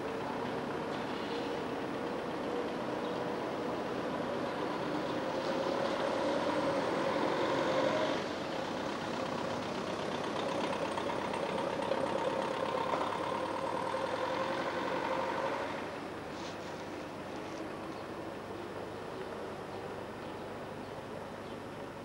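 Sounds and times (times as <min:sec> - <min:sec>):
street noise: 0:00.0 - 0:22.0
vehicle engine hum: 0:00.0 - 0:22.0.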